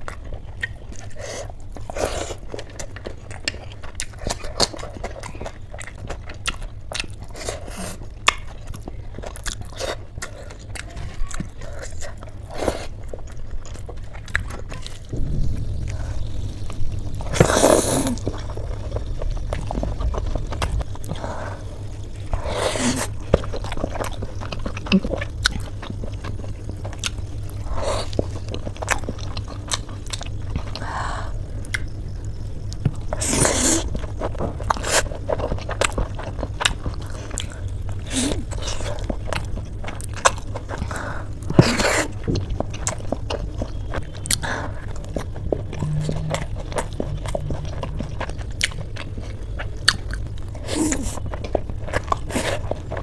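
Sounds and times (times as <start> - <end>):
steady low hum: 0.0 - 53.0
wet chewing mouth sounds: 0.0 - 53.0.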